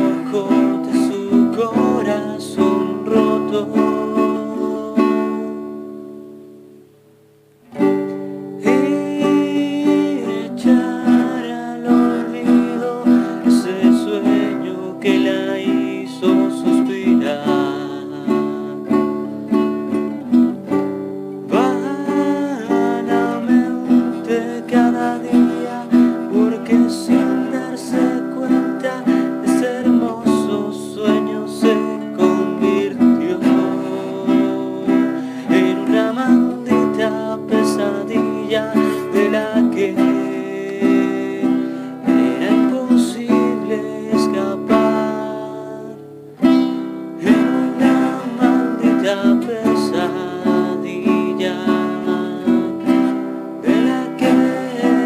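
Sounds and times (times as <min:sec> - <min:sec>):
fingerpicked acoustic string melody: 0:00.0 - 0:55.0.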